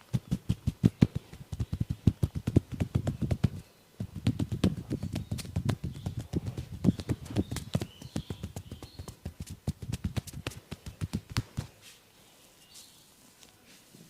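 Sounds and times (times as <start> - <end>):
hands patting on head: 0.0 - 12.0.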